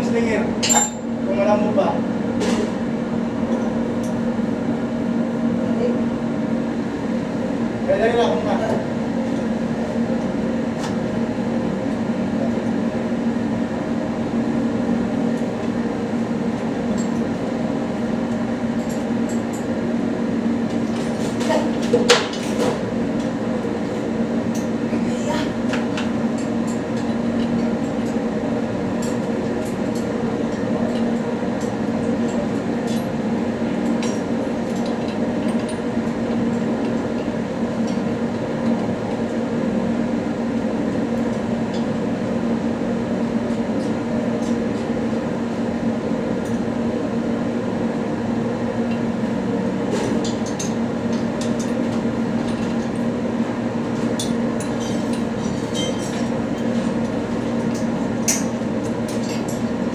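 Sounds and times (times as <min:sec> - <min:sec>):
workshop machine humming: 0:00.0 - 0:59.9.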